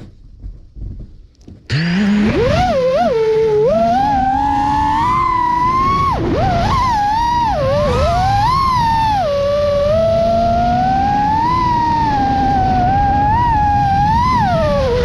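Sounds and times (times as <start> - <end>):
drone motors whining: 1.7 - 15.0.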